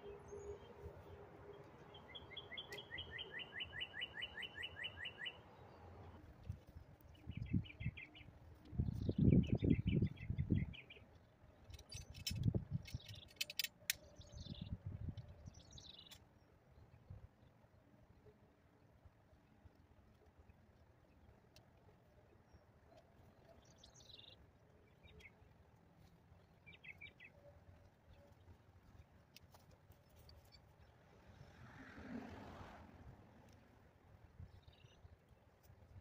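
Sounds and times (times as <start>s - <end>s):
small birds chirping: 0.0s - 17.6s, 20.3s - 31.4s, 33.4s - 36.0s.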